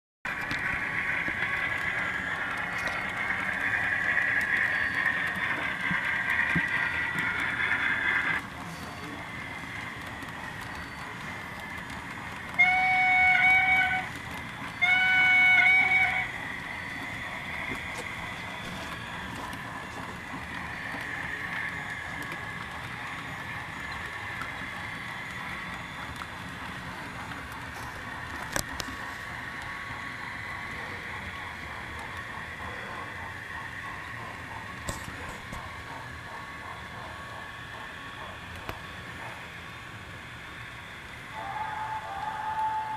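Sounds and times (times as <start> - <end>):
model train motor whirring: 0.3 - 42.9.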